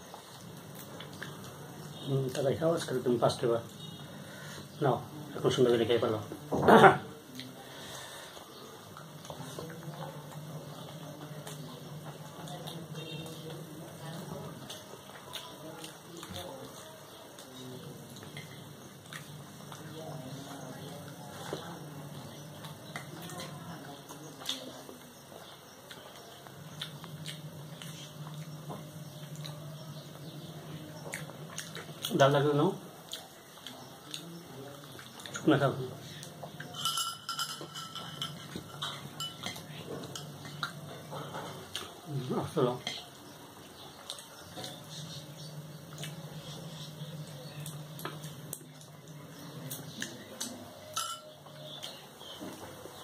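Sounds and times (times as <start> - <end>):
chewing: 0.0 - 2.9, 7.3 - 36.8, 37.7 - 53.0
eating clicks: 8.6 - 36.8, 38.3 - 52.7.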